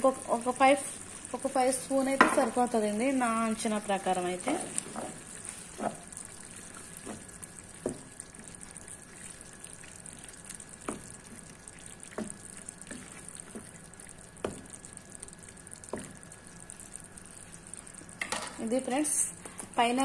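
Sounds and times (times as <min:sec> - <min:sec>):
thick gravy plopping and squelching: 0:00.3 - 0:18.2.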